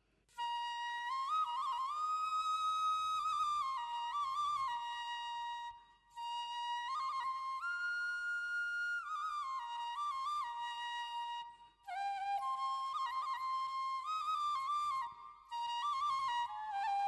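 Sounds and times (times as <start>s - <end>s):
solo flute melody: 0.3s - 17.0s.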